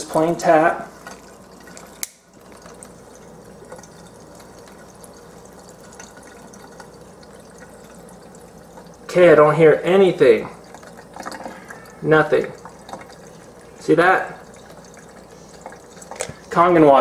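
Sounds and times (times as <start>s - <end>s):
tap water splashing into sink: 0.0s - 9.2s, 10.2s - 16.7s.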